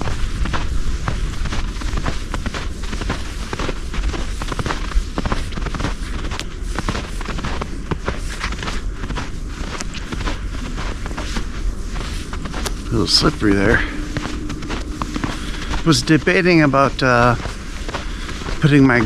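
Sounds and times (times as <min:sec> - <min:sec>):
footsteps crunching in snow: 0:00.0 - 0:19.0
wind buffeting microphone: 0:00.0 - 0:19.0.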